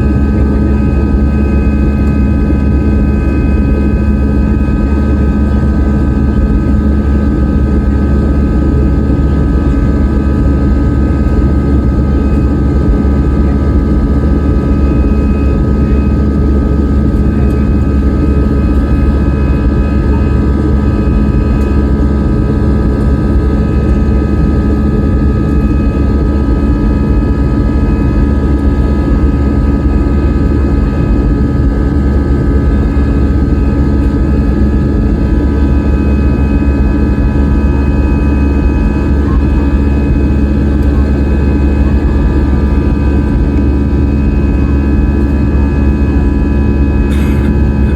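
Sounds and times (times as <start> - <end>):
jet engines droning in cabin: 0.0 - 47.9.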